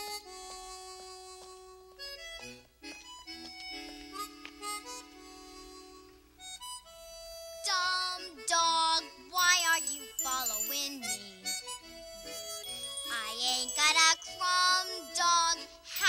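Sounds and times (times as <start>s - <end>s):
soft instrumental film music: 0.0s - 16.0s.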